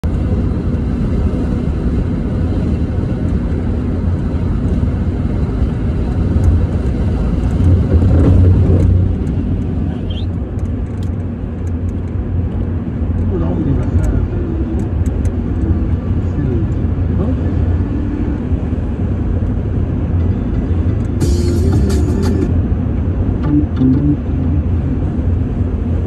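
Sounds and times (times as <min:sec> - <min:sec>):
car driving at highway speed: 0:00.0 - 0:26.0.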